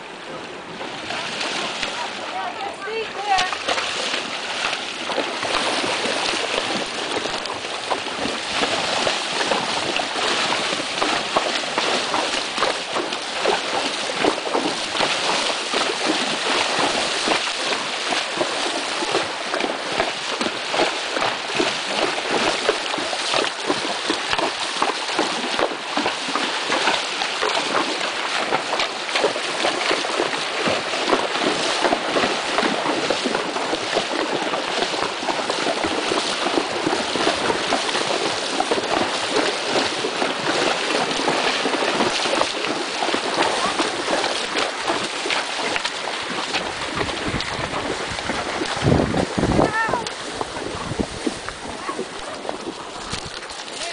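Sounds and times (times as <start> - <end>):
horse hooves splashing in water: 0.0 - 53.9.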